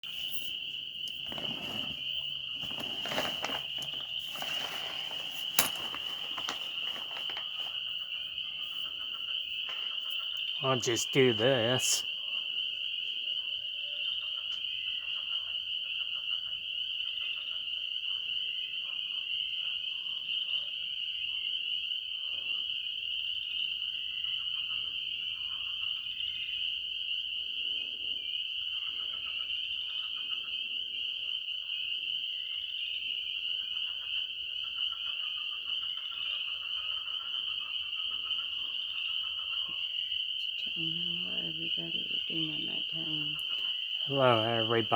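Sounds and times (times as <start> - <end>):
fainter lower frog calls: 0.0 - 44.9
frogs calling high-pitched: 0.1 - 44.9.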